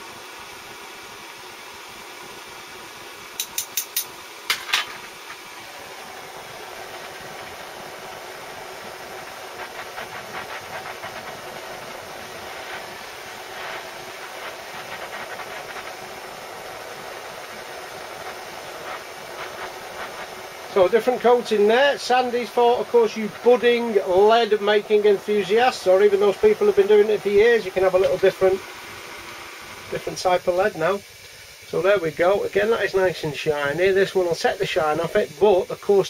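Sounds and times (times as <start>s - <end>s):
blowtorch flame hissing: 0.0s - 36.0s.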